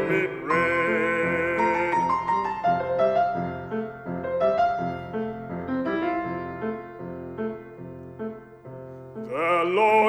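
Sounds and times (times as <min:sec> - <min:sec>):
solo piano notes and chords: 0:00.0 - 0:10.0.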